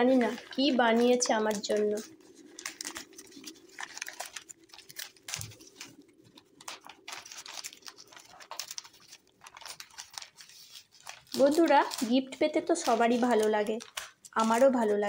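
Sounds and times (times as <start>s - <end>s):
wrapping crinkling and rustling: 0.0s - 15.0s.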